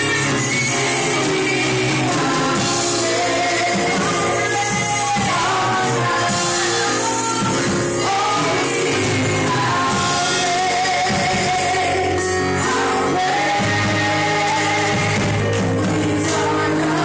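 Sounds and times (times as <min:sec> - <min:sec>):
band accompaniment: 0:00.0 - 0:17.0
voices singing gospel: 0:00.0 - 0:17.0.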